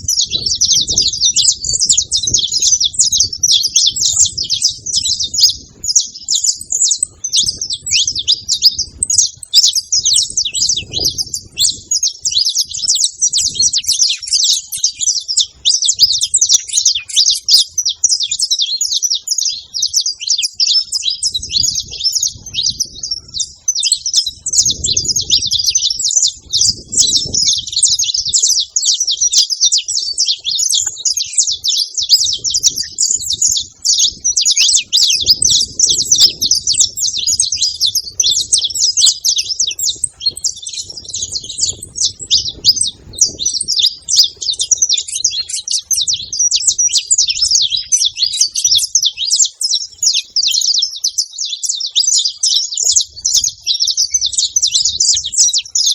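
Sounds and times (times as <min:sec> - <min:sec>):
finches chirping: 0:00.0 - 0:55.9.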